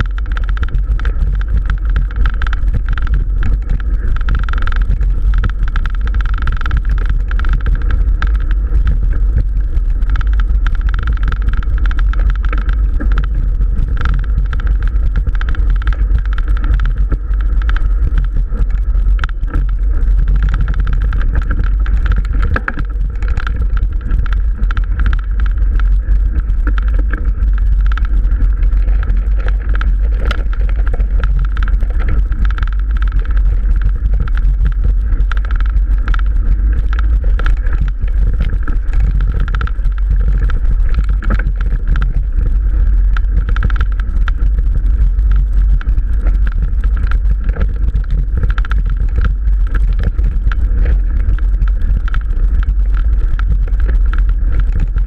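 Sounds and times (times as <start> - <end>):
bike rumble on dirt track: 0.0 - 55.0
rattling and clicking: 0.0 - 55.0.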